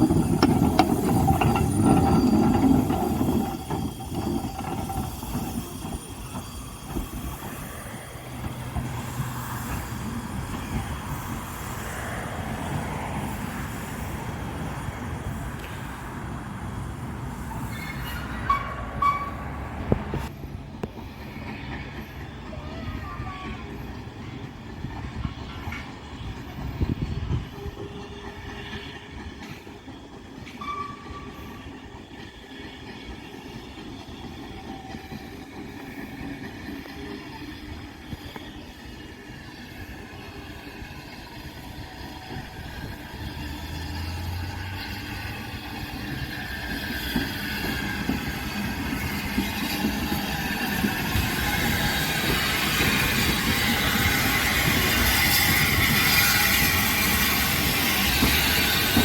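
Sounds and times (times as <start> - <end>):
train rumble and rail noise: 0.0 - 59.0.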